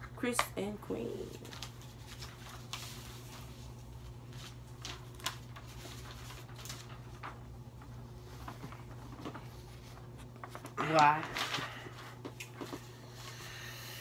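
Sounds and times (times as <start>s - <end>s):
steady low hum: 0.0s - 14.0s
paper rustling: 1.2s - 13.4s.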